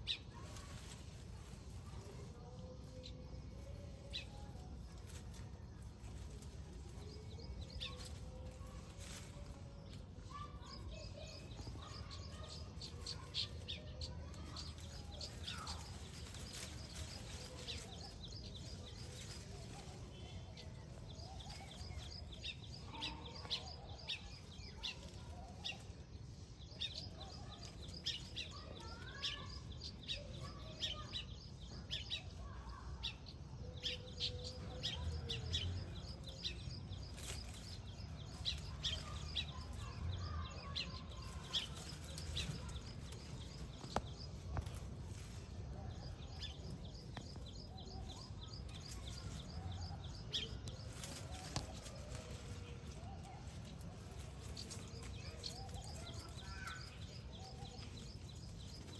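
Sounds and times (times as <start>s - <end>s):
birds chattering and chirping: 0.0s - 58.9s.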